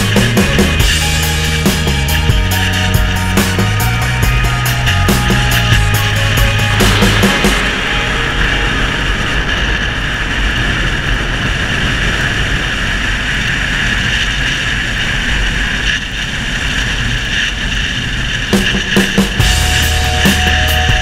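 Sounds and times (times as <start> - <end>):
wind rush on helmet: 2.2 - 20.2.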